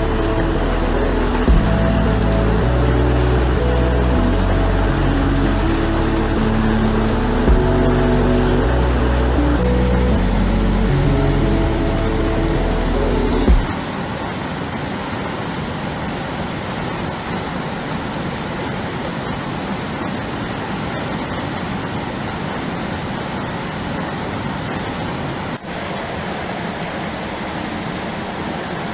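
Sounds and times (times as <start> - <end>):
stream water rushing over rocks: 0.0 - 28.9.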